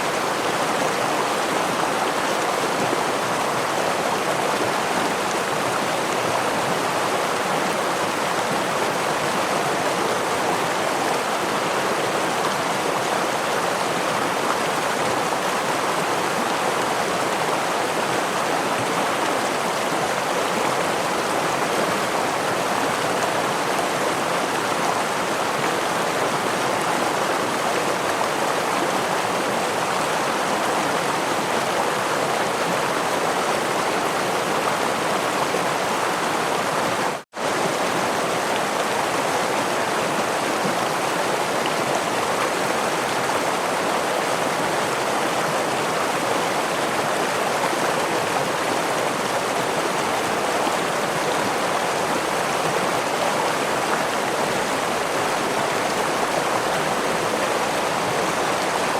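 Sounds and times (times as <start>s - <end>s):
waterfall rushing and splashing: 0.0s - 58.9s.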